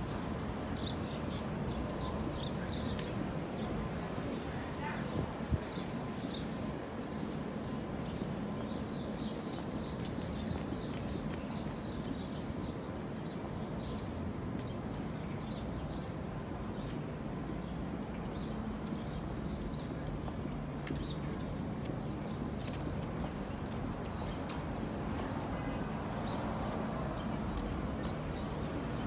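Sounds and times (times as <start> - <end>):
steady low street hum: 0.0 - 29.0.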